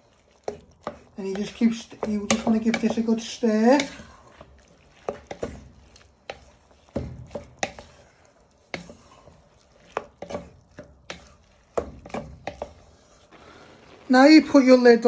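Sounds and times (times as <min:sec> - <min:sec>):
wooden spatula scraping a pan: 0:00.0 - 0:15.0.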